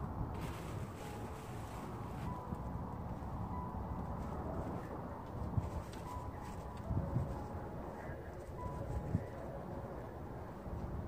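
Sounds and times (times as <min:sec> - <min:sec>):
wind blowing across microphone: 0:00.0 - 0:11.0.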